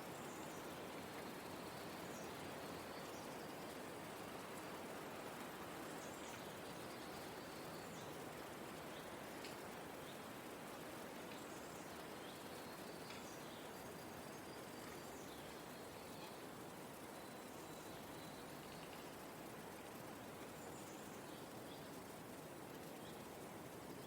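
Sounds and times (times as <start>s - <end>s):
soft breeze hiss: 0.0s - 24.0s.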